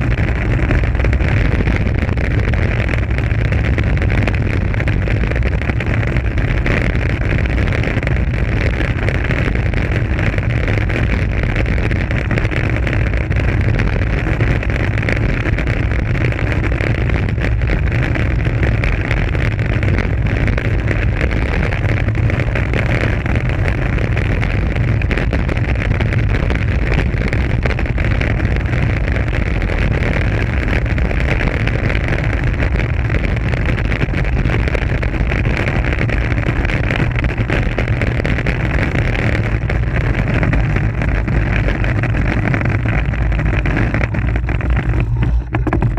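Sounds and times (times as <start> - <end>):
tyres rumbling on rough asphalt: 0.0 - 45.9
wind rush buffeting camera: 0.0 - 45.9.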